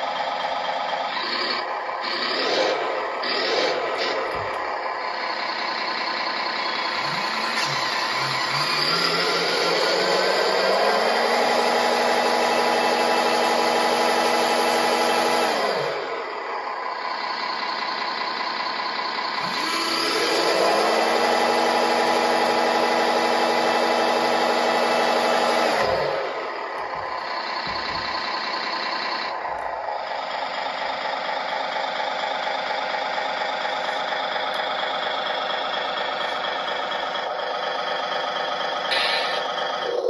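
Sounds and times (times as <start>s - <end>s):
simulated diesel truck engine: 0.0s - 40.0s.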